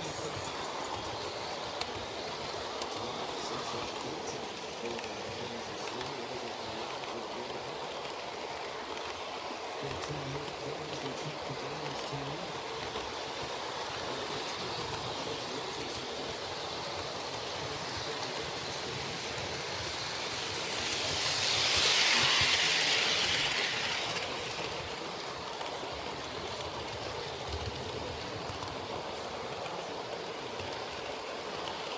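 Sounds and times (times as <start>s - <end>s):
model train running on track: 0.0s - 31.9s.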